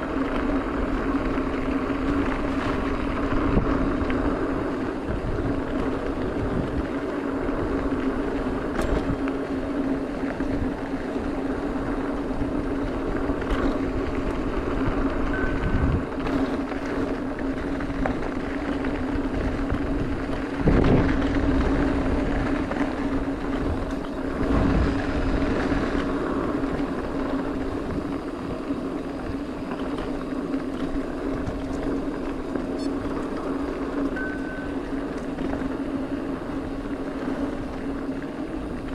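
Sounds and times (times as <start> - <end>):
bike tyres on dirt: 0.0 - 38.9
steady hum: 0.0 - 38.9
wind rumble on microphone: 0.0 - 38.9.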